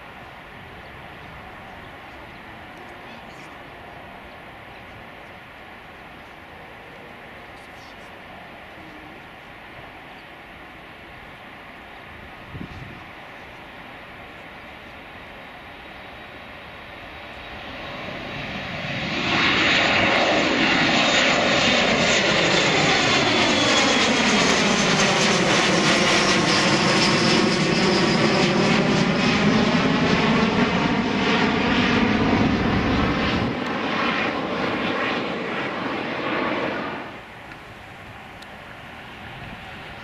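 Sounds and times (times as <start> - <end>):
jet airliner engine noise: 0.0 - 40.0.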